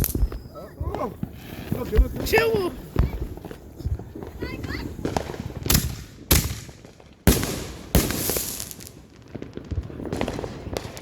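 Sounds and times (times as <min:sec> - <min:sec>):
fireworks bangs with echo: 0:00.0 - 0:11.0
fireworks crackling: 0:00.0 - 0:11.0.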